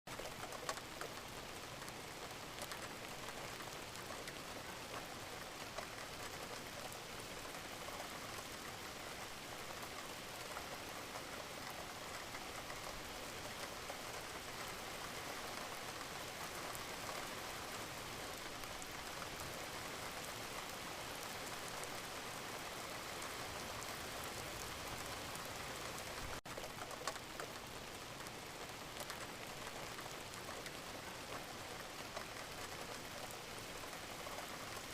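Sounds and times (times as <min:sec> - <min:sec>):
rain pattering on a surface: 0:00.1 - 0:34.9.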